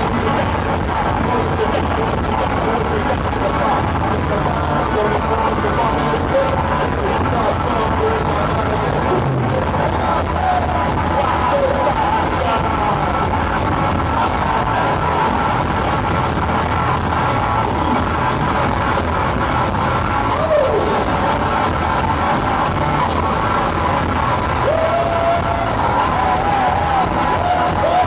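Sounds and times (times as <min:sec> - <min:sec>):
driving drum beat: 0:00.0 - 0:28.0.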